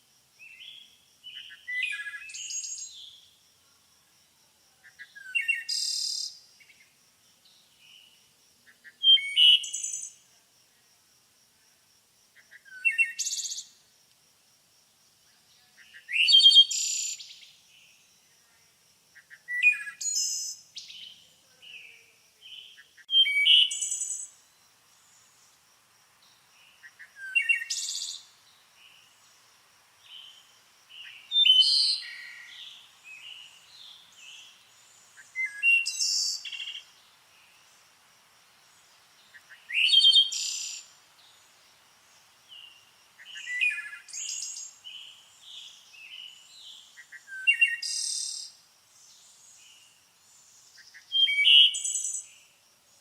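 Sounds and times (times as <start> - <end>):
songbird singing: 0.0 - 10.8, 12.3 - 13.9, 14.8 - 53.0.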